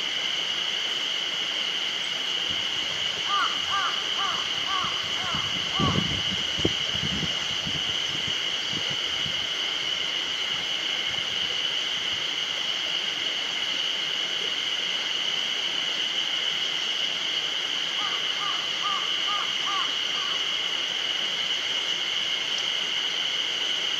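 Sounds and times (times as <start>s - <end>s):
cicadas buzzing: 0.0s - 23.9s.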